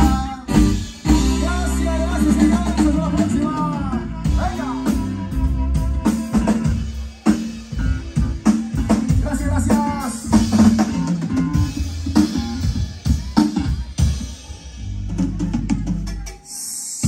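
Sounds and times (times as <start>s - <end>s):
drums and percussion beat: 0.0s - 17.0s
live dance band playing: 0.0s - 17.0s.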